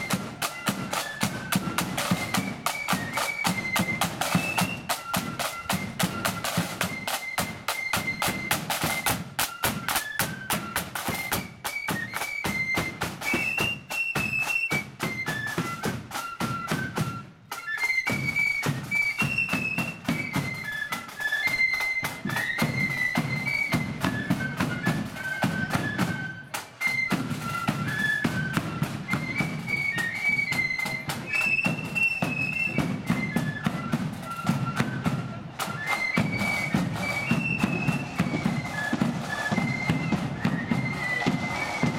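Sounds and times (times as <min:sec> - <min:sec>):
flutes playing high tune: 0:00.0 - 0:41.9
snare drum strokes: 0:00.0 - 0:41.9.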